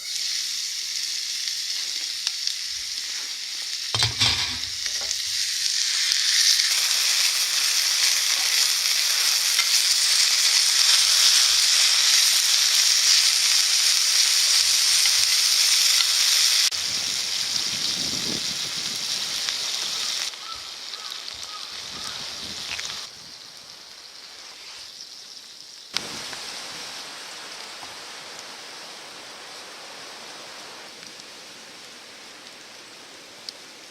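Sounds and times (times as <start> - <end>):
chicken sizzling in frying pan: 0.0 - 33.9.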